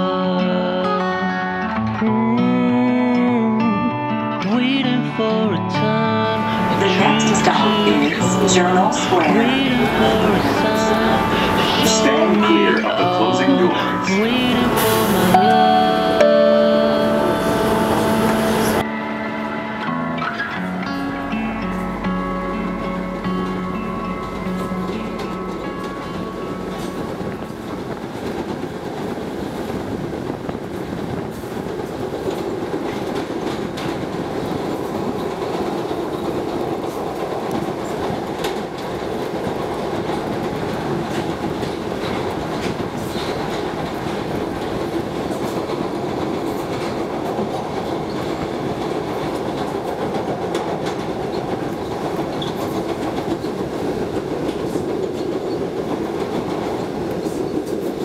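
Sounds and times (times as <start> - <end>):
subway train wheels rumbling: 3.0 - 58.0.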